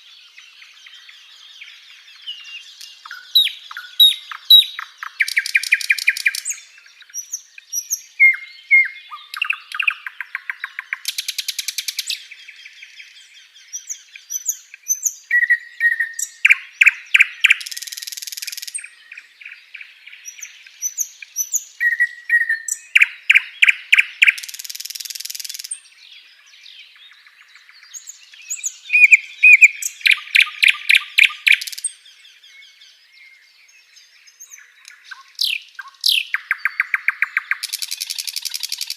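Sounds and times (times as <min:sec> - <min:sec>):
flycatcher singing: 0:00.0 - 0:38.9.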